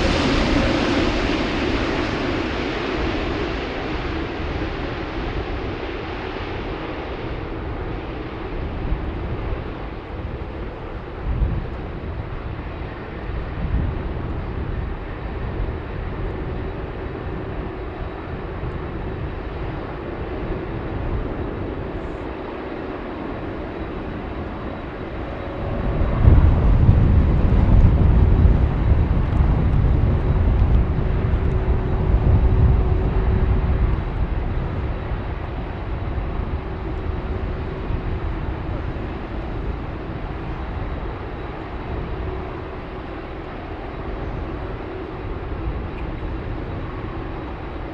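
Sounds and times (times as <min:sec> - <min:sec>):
jet airliner rumble: 0:00.0 - 0:47.9.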